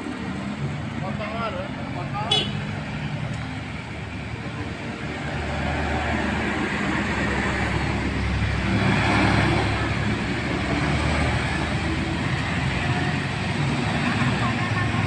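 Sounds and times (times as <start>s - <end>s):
bus engine running: 0.0s - 15.0s
road and traffic noise: 0.0s - 15.0s.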